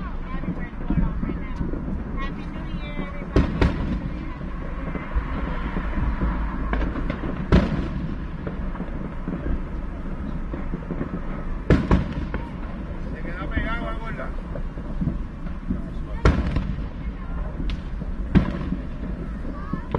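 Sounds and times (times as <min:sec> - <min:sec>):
fireworks bursting: 0:00.0 - 0:19.9
steady low rumble: 0:00.0 - 0:19.9.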